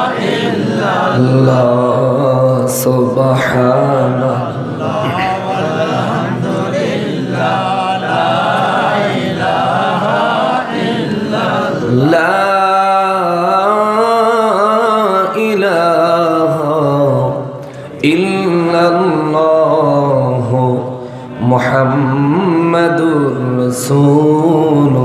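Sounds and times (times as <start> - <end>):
man chanting: 0.0 - 25.0.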